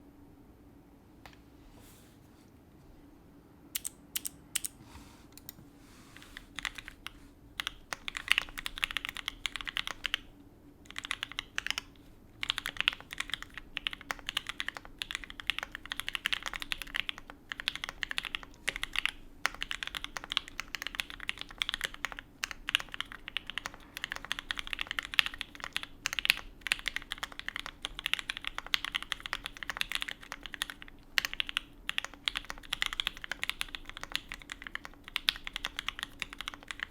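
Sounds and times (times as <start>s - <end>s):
mechanical keyboard typing: 3.8s - 4.8s, 6.4s - 10.3s, 10.9s - 36.9s.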